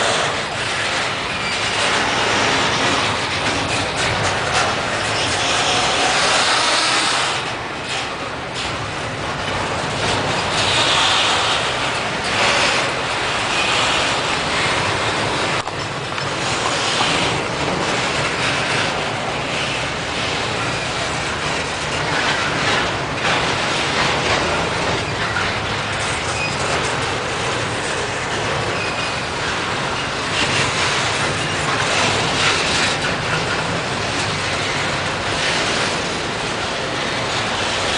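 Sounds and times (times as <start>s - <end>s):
clicking over rail joints: 0.0s - 37.9s
train wheels on rails: 0.0s - 37.9s.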